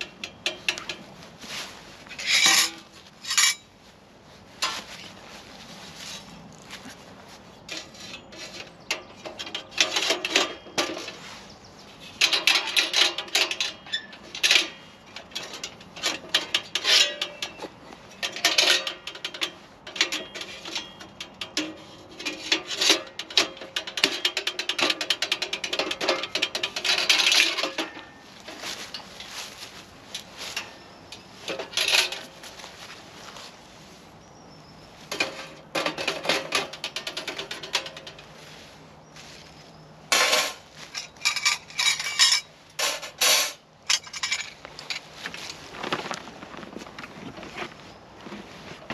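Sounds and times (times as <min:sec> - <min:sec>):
scraping and rubbing: 0:00.0 - 0:34.1, 0:35.0 - 0:48.9.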